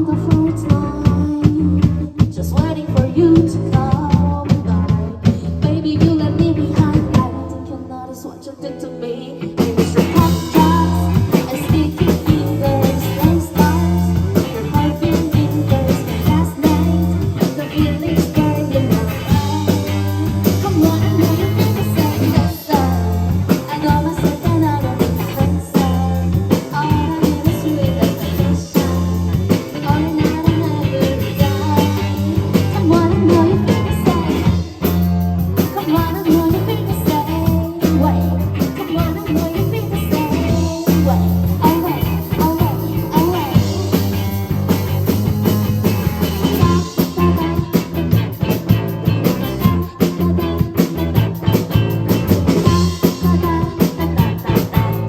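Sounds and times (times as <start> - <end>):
rock band playing live: 0.0 - 7.9, 8.7 - 55.0.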